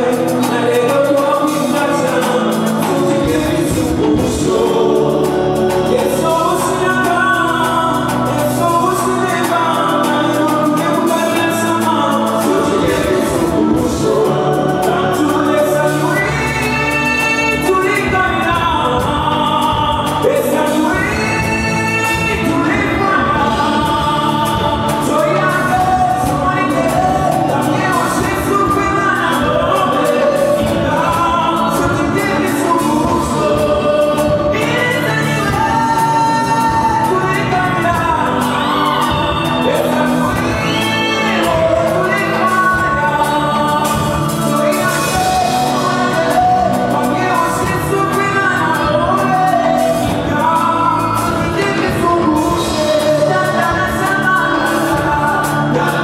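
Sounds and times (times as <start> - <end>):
band with drums: 0.0 - 56.0
man singing into microphone: 0.0 - 56.0.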